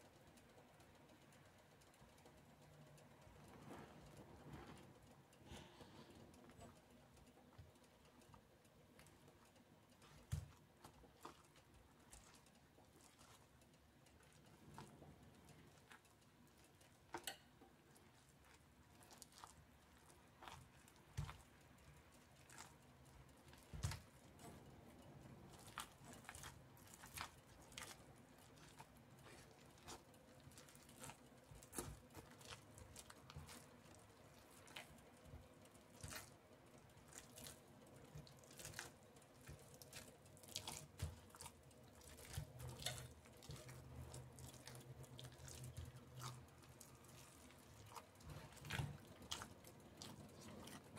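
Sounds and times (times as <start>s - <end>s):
soft squelching mixture: 0.0s - 50.9s.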